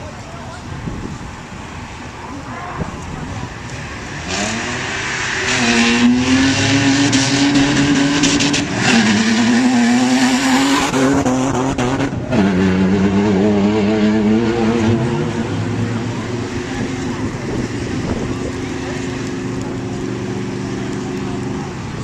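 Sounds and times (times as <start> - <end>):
loud rushing noise: 0.8 - 20.0
race vehicle engine accelerating: 2.8 - 22.0.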